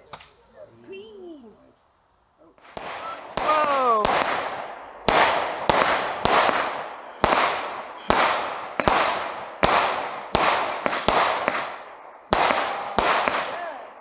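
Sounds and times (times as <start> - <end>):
firework bangs with hiss: 2.6 - 13.9.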